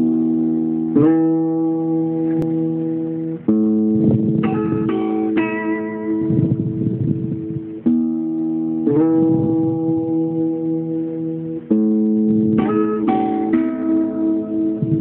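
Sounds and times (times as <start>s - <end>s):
acoustic guitar slow chords: 0.0s - 15.0s.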